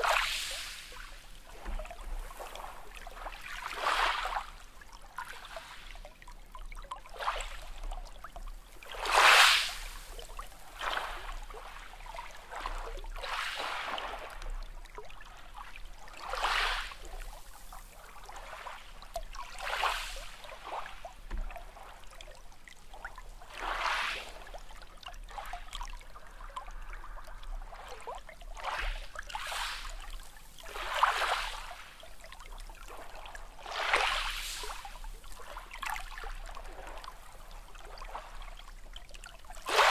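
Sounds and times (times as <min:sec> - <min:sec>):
small sea waves washing in: 0:00.0 - 0:39.9.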